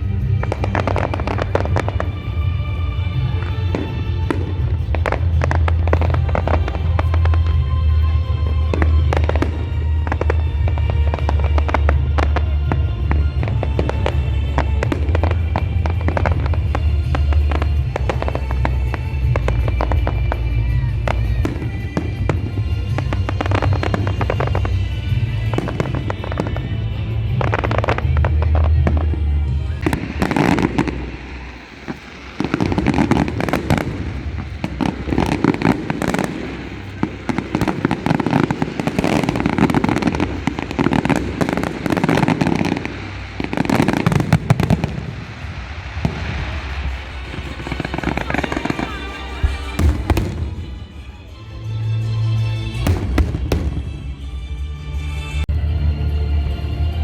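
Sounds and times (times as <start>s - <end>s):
fireworks bangs and crackling: 0.0s - 57.0s
music playing: 0.0s - 57.0s.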